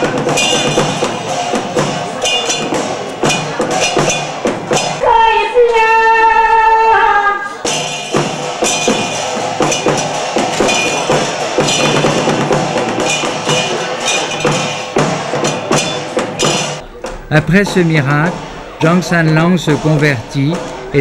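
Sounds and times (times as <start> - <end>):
small cymbals: 0.0 - 5.1, 7.5 - 21.0
ringing gongs: 0.0 - 5.2, 7.5 - 21.0.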